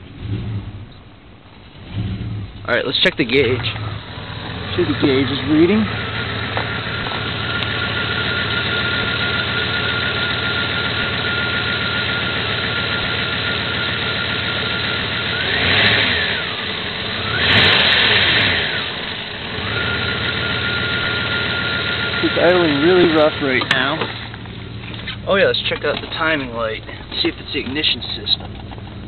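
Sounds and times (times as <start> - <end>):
car engine idling rough: 0.0 - 29.0.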